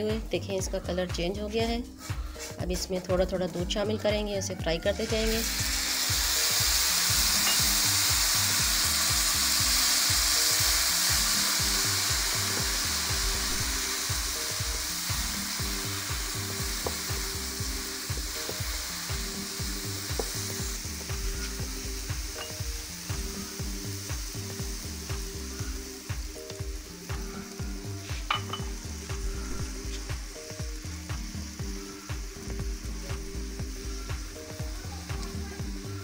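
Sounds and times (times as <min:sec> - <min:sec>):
noodles sizzling in a pan: 0:05.0 - 0:36.0.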